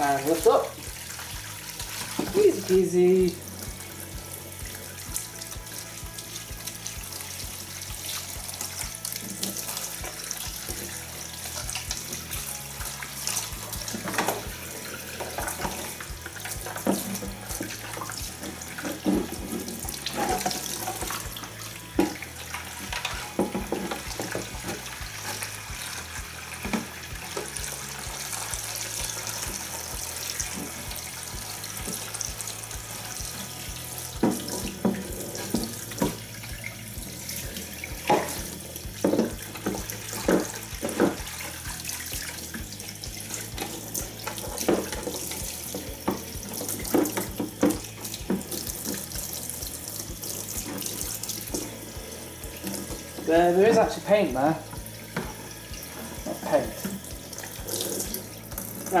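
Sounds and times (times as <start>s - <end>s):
water splashing on plastic: 0.0s - 4.2s, 4.8s - 59.0s
tap water running into sink: 0.0s - 59.0s.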